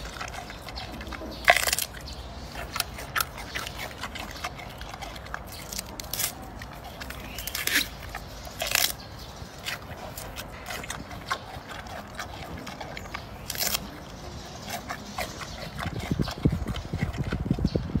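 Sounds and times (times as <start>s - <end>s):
bamboo crunching and cracking: 0.0s - 17.5s.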